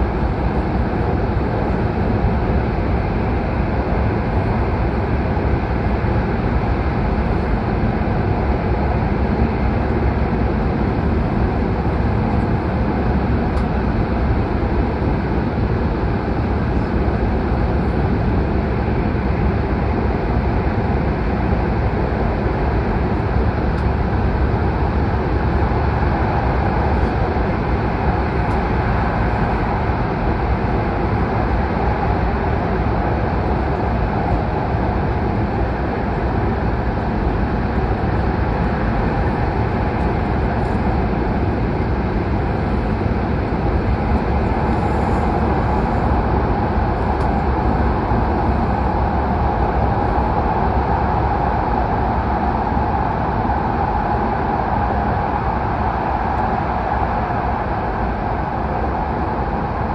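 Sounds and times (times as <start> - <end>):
train running in tunnel: 0.0 - 59.9.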